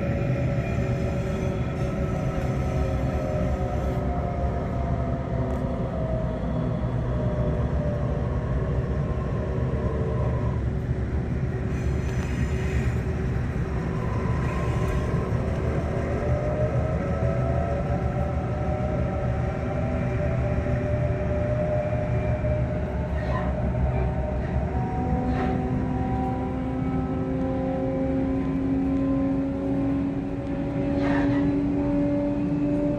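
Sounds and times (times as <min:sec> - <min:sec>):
diesel locomotive engine drone: 0:00.0 - 0:32.9.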